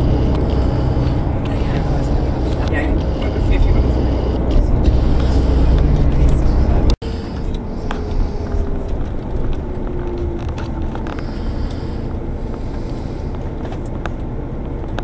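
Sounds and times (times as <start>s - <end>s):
faint whine: 0.0s - 13.8s
bus engine and road rumble: 0.0s - 15.0s.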